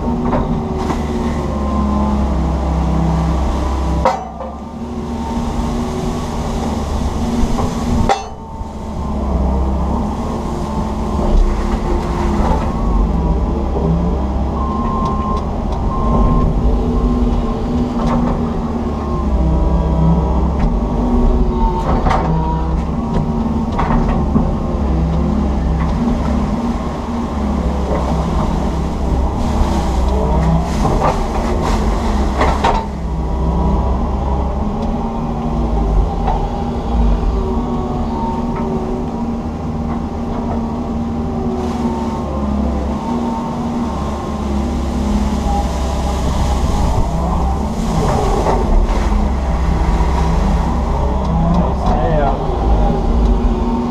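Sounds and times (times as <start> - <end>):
excavator diesel engine: 0.0 - 53.9
hydraulics whining: 0.0 - 53.9.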